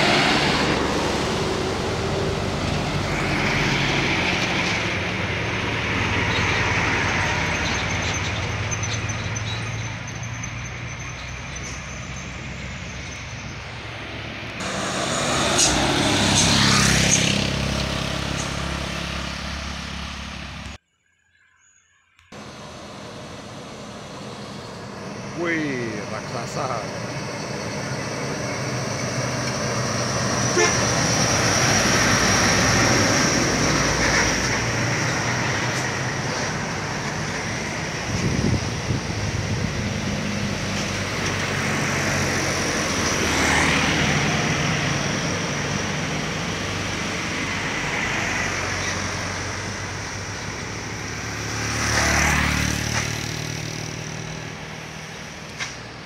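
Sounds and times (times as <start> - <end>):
diesel engines pulling hard: 0.0 - 20.8, 22.4 - 56.0
heavy trucks driving past: 0.0 - 20.8, 22.4 - 56.0.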